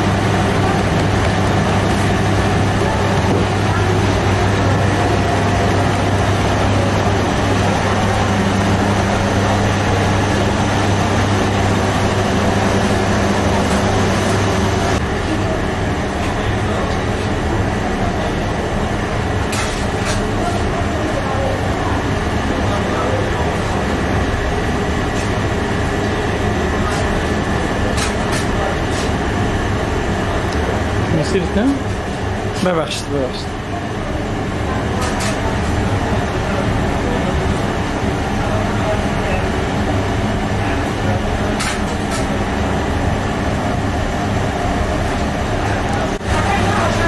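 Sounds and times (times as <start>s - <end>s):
loud low hum: 0.0s - 47.0s
machinery low rumble: 0.0s - 47.0s.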